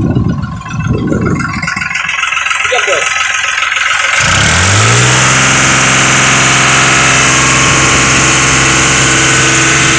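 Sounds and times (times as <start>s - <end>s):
tractor diesel engine idling: 0.0s - 9.9s.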